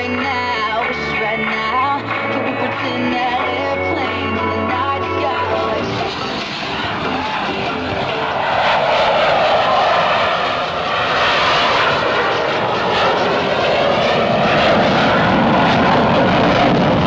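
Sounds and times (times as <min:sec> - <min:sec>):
airplane flying past low: 0:00.0 - 0:17.0.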